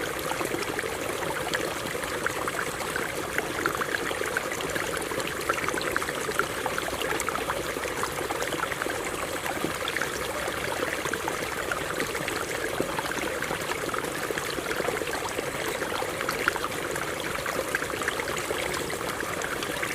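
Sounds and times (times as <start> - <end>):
water running over rocks: 0.0 - 19.9.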